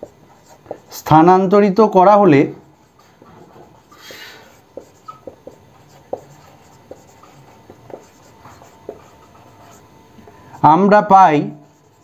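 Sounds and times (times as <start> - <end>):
marker pen writing on whiteboard: 0.0 - 12.0.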